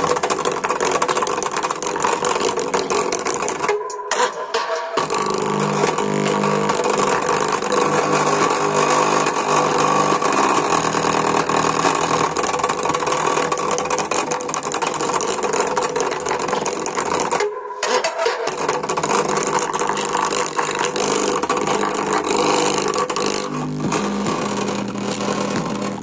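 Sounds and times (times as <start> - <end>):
distorted loudspeaker buzz: 0.0 - 4.3, 5.0 - 26.0.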